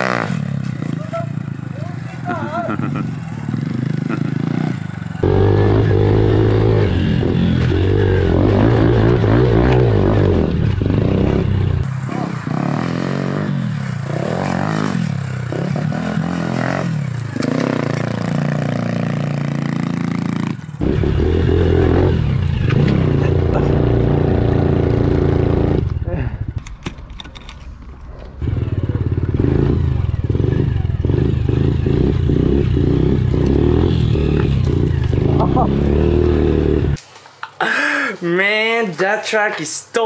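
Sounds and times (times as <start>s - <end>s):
pit bike engine revving: 0.0s - 26.6s, 28.4s - 37.0s.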